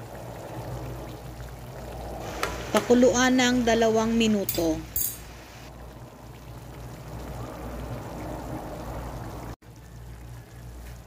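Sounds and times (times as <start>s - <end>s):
stew bubbling in a pan: 0.0s - 4.8s, 5.7s - 11.0s.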